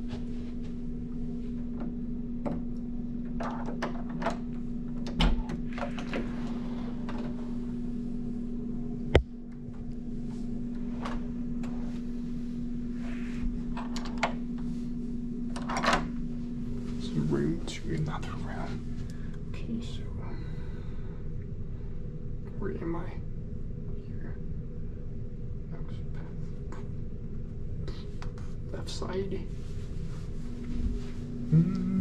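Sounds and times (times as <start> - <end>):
low room hum: 0.0 - 32.0.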